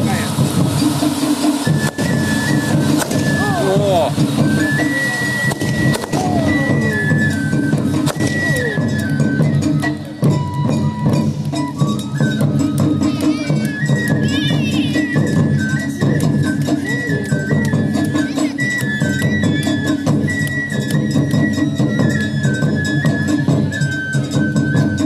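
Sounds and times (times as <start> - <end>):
high flute melody: 0.0 - 25.0
percussion clicks and knocks: 0.0 - 25.0.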